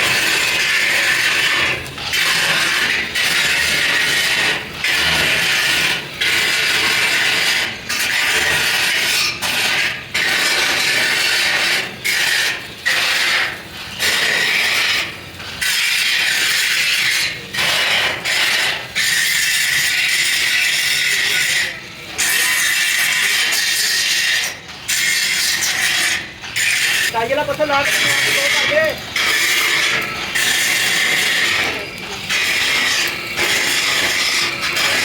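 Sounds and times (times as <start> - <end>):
tool rasping on metal: 0.0 - 35.0.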